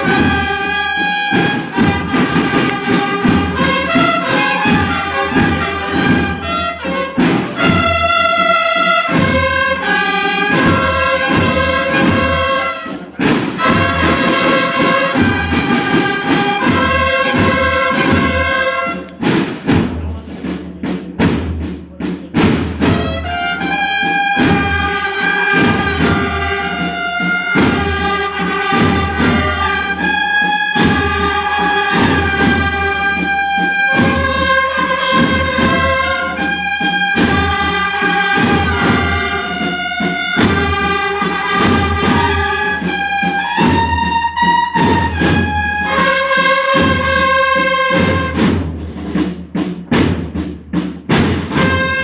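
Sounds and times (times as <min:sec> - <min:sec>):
trumpets playing march: 0:00.0 - 0:19.4, 0:22.8 - 0:49.2, 0:51.0 - 0:52.0
marching drum beat: 0:00.0 - 0:52.0.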